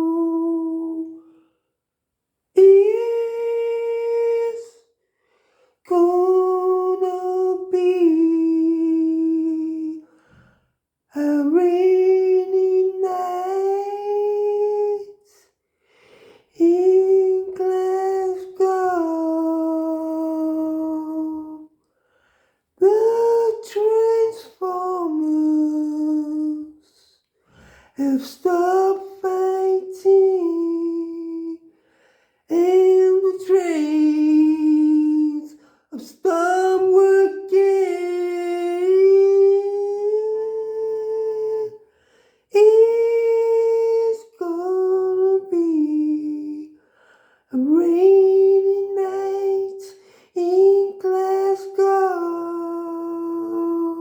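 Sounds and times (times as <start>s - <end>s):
person singing wordless notes: 0.0s - 1.3s, 2.6s - 4.8s, 5.9s - 10.2s, 11.1s - 15.4s, 16.6s - 21.7s, 22.8s - 27.2s, 28.0s - 31.7s, 32.5s - 41.9s, 42.5s - 46.8s, 47.5s - 54.0s.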